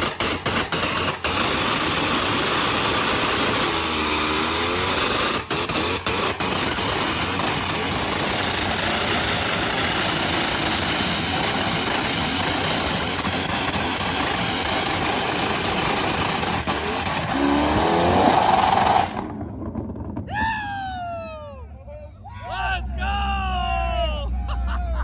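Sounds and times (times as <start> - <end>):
car engine at high revs: 0.0 - 20.3.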